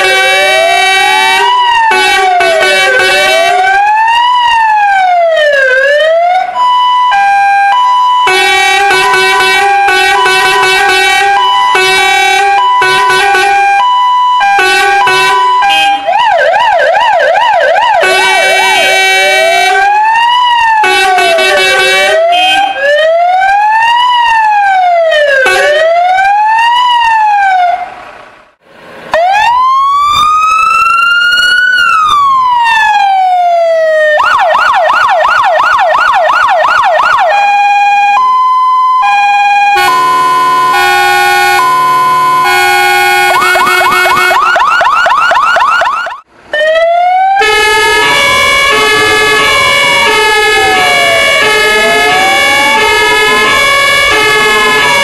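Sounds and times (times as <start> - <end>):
siren sweeping up and down: 0.0 - 28.0, 29.1 - 55.0
fire engine sirens: 0.0 - 55.0.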